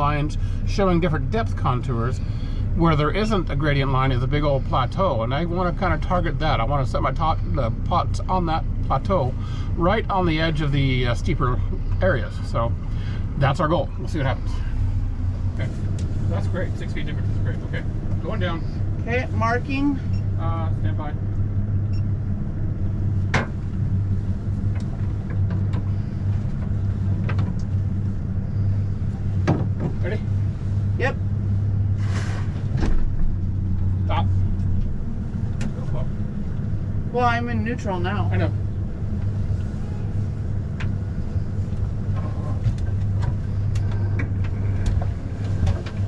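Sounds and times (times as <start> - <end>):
outboard motors humming: 0.0 - 46.0.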